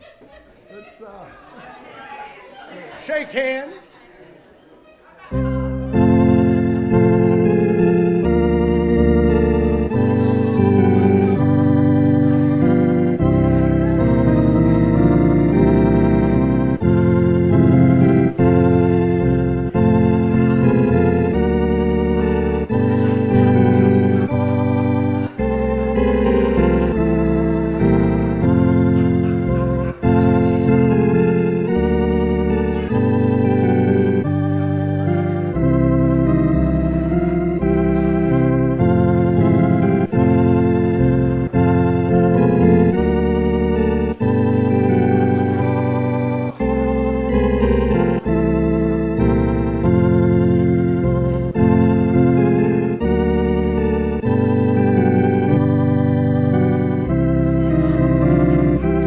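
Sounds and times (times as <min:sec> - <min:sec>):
organ playing held chords: 0:05.3 - 0:59.0.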